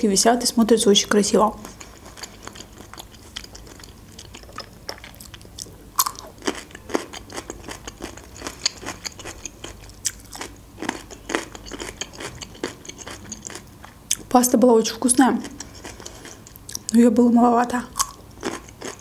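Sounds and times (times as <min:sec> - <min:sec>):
crunching and chewing pickles: 0:01.2 - 0:17.0, 0:17.7 - 0:19.0.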